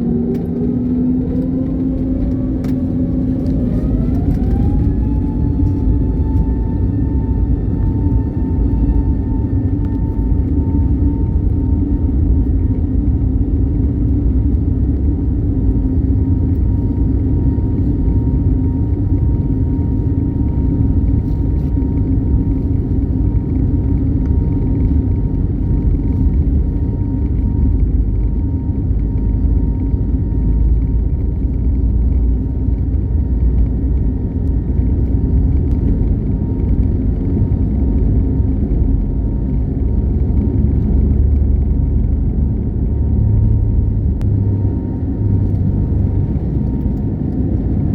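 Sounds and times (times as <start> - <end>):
jet engine and airflow rumble: 0.0 - 47.9.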